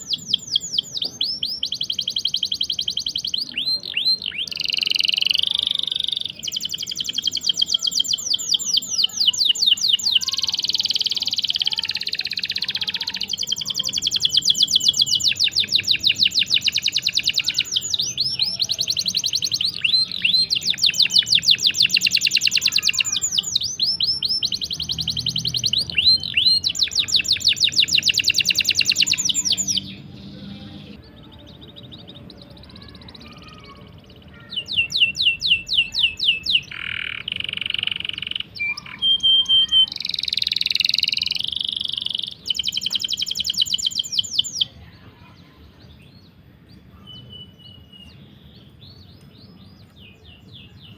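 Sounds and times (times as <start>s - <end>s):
songbird singing rolling trills: 0.0s - 50.9s.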